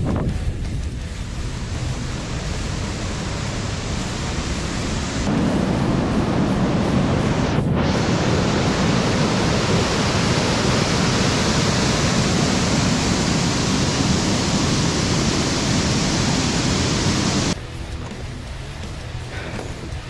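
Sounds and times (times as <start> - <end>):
waterfall rushing: 1.3 - 17.6.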